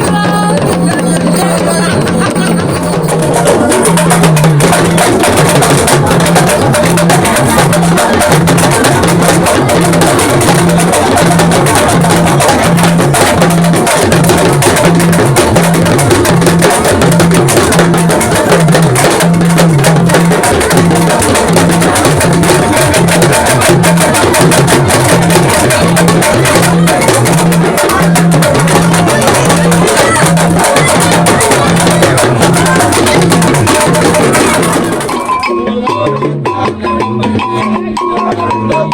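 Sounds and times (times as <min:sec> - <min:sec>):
low drum beat: 0:00.0 - 0:35.2
drum and percussion music: 0:00.0 - 0:38.9.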